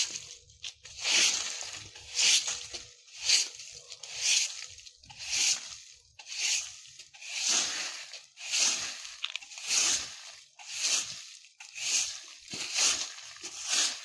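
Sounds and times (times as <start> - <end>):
broom sweeping dry leaves: 0.0 - 14.0.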